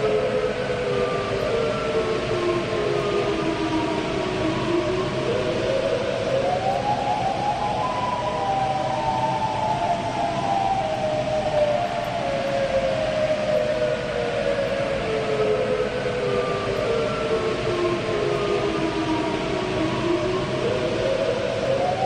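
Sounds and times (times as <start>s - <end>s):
warning siren: 0.0s - 22.0s.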